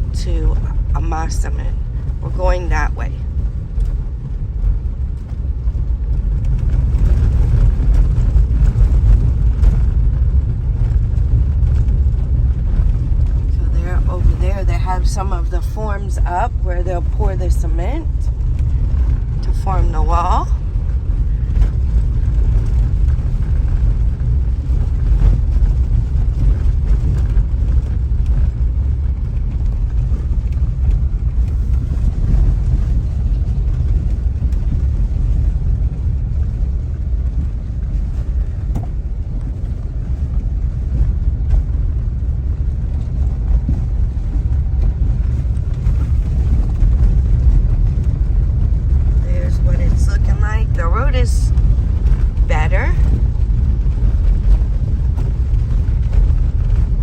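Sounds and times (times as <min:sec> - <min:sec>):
car driving low rumble: 0:00.0 - 0:57.0.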